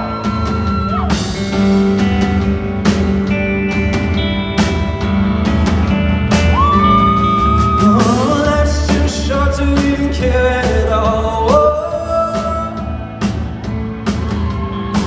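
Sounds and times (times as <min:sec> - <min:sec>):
drums: 0:00.0 - 0:15.0
live rock band playing: 0:00.0 - 0:15.0.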